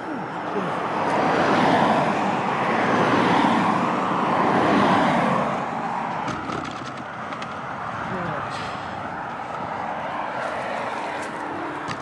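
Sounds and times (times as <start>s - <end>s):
traffic passing close by: 0.0s - 12.0s.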